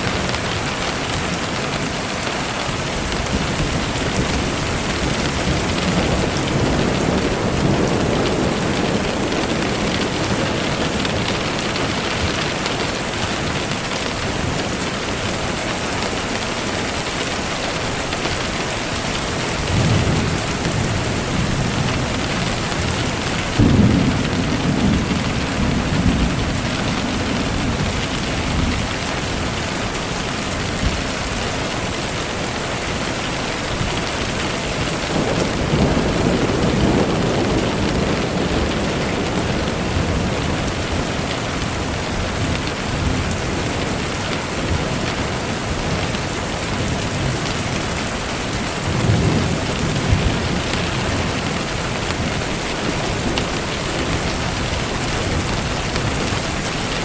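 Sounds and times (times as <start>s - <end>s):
steady rain falling: 0.0s - 57.0s
thunder rumbling: 0.0s - 57.0s.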